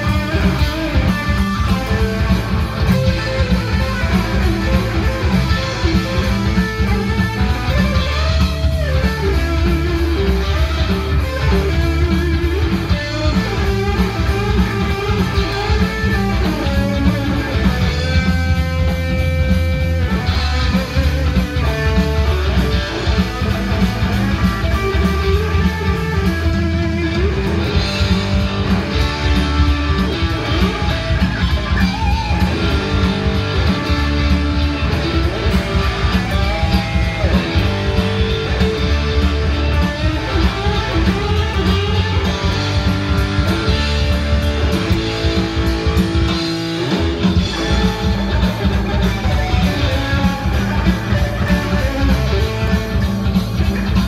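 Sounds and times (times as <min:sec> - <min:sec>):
electric guitar lead: 0:00.0 - 0:54.0
low bass line: 0:00.0 - 0:54.0.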